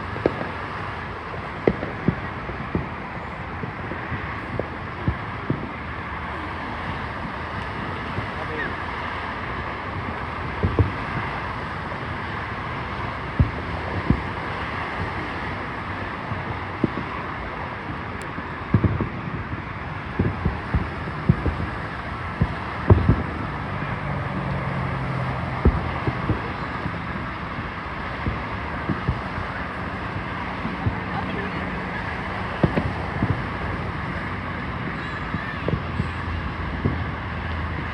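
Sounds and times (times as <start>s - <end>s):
background rumble: 0.0s - 37.9s
distant fireworks booming: 0.0s - 37.9s.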